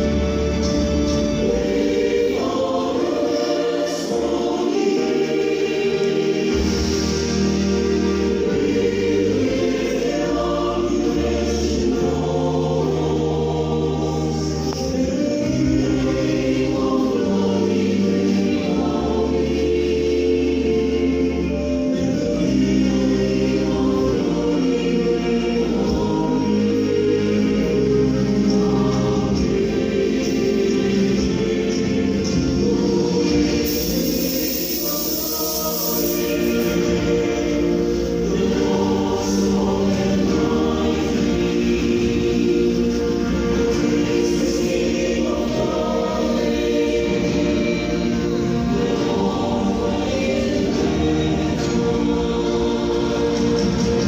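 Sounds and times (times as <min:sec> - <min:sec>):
choir singing held chords: 0:00.0 - 0:54.0.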